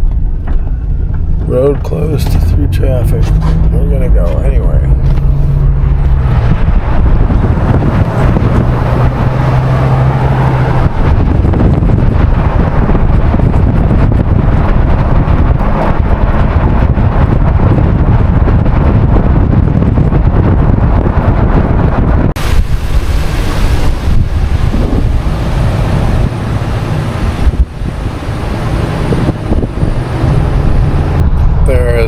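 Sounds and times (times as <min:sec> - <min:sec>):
road noise: 0:00.0 - 0:32.0
van engine drone: 0:00.0 - 0:32.0
wind buffeting microphone: 0:00.0 - 0:32.0.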